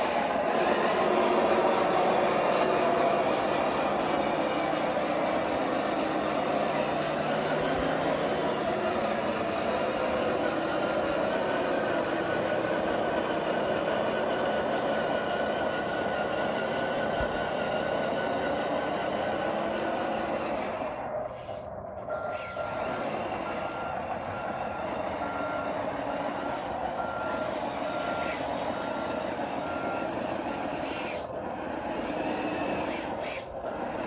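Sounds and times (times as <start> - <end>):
toy bulldozer mechanical hum: 0.0 - 34.0.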